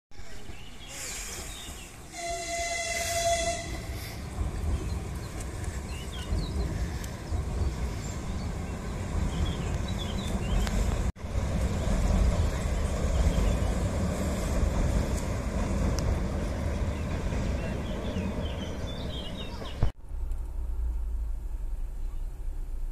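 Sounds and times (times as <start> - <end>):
train rumbling over bridge: 0.2 - 22.9.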